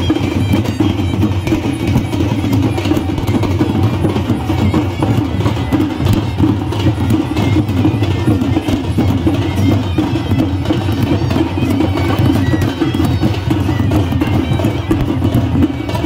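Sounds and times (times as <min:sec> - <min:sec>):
barrel drums beating: 0:00.0 - 0:16.0.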